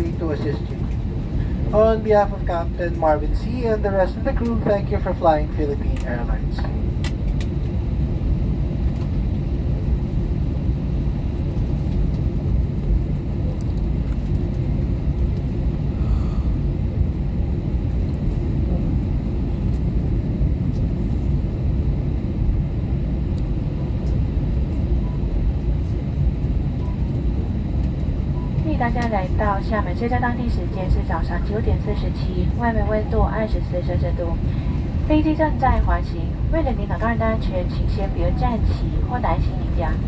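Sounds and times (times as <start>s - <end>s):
airliner taxiing rumble: 0.0s - 40.0s.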